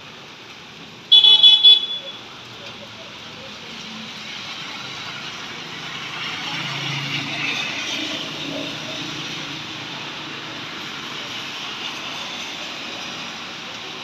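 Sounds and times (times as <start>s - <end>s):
cars driving through slush: 0.0s - 14.0s
rain and hail on road: 0.0s - 14.0s
tyres hissing on wet road: 0.0s - 14.0s.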